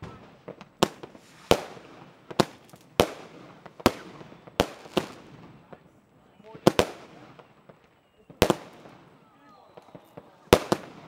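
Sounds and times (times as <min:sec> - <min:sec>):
faint firework cracks: 0:00.0 - 0:05.9, 0:06.5 - 0:11.0
fireworks bangs: 0:00.0 - 0:11.0.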